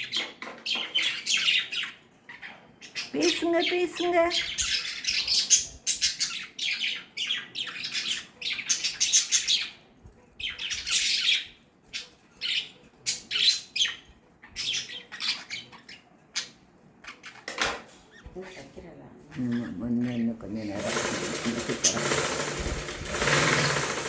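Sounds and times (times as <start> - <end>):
lovebirds squawking and chirping: 0.0 - 23.8.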